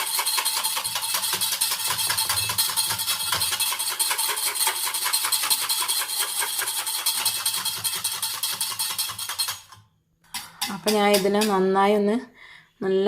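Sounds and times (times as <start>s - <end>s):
hand whisk frothing milk: 0.0s - 11.5s.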